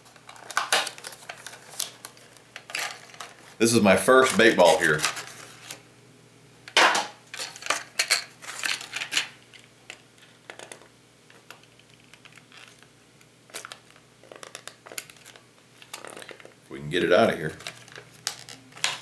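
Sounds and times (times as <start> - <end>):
plastic packaging crackling: 0.0 - 5.8, 6.8 - 16.6, 17.2 - 19.0.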